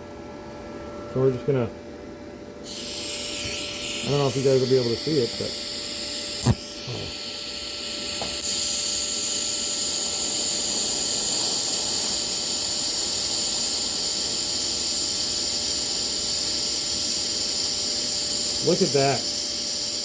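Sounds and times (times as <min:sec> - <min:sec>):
welding arc hissing: 0:02.7 - 0:20.0.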